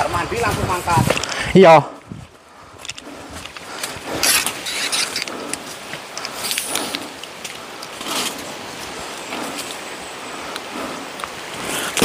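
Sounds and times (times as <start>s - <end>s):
crunching footsteps on trail: 0.4s - 12.0s.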